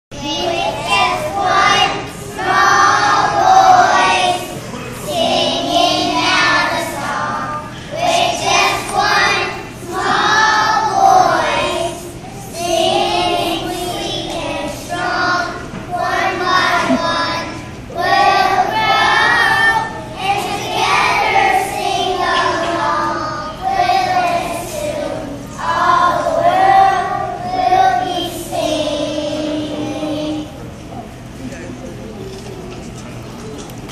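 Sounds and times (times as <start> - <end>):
children singing together: 0.2 - 31.2.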